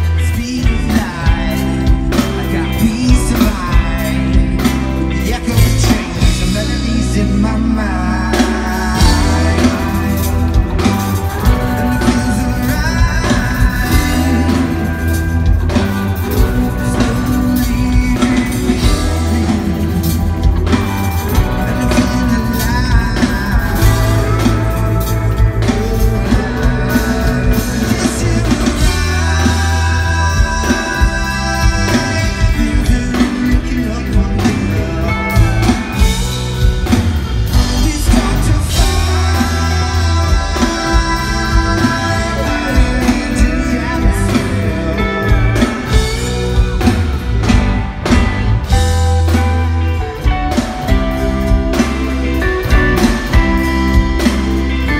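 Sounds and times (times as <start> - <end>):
person singing lead vocal: 0.0 - 54.9
rock band playing live: 0.0 - 54.9.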